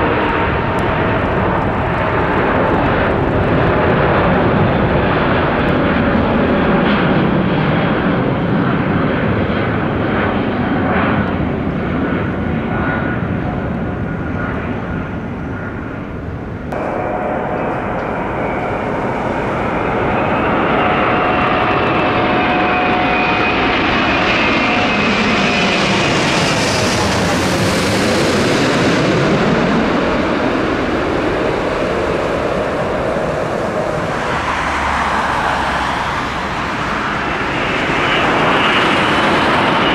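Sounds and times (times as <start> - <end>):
jet airliner passing: 0.0 - 39.9
jet engine whine: 0.0 - 39.9.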